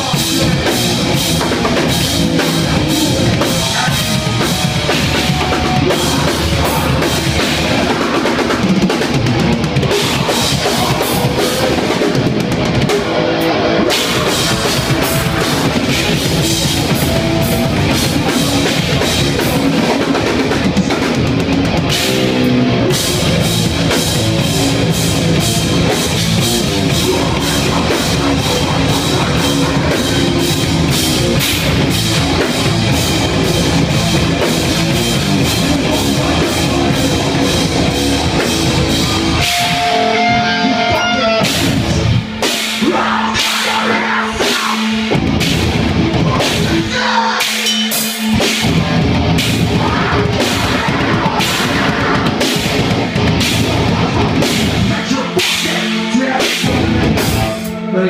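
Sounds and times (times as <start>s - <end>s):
fast dense drumming: 0.0s - 47.2s, 47.9s - 57.6s
electric guitars: 0.0s - 58.0s
heavy metal band playing live: 0.0s - 58.0s.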